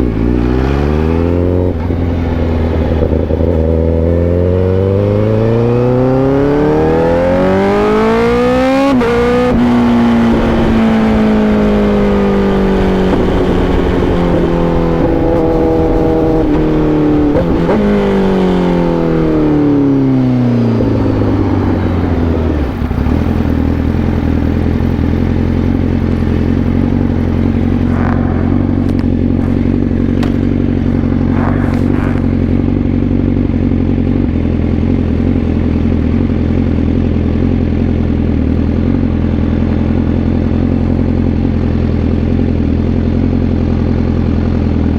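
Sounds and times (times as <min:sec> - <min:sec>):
motorcycle engine revving: 0:00.0 - 0:44.9
motorcycle engine idling: 0:01.4 - 0:04.7, 0:09.7 - 0:44.9.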